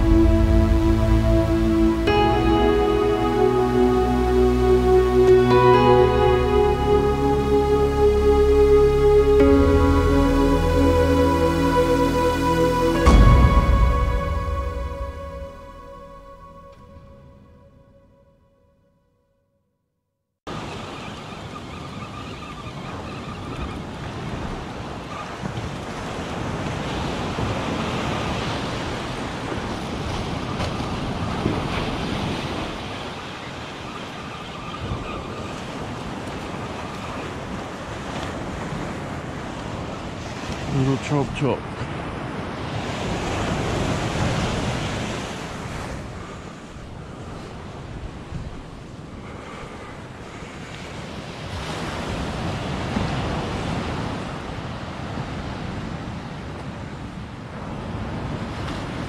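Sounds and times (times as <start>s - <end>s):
surf washing up beach: 0.0s - 15.4s, 20.5s - 59.0s.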